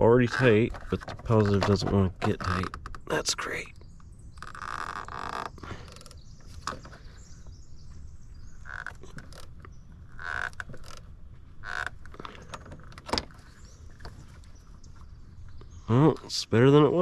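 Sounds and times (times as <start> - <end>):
short creaks: 0.0 - 3.2, 4.3 - 7.5, 8.6 - 16.4.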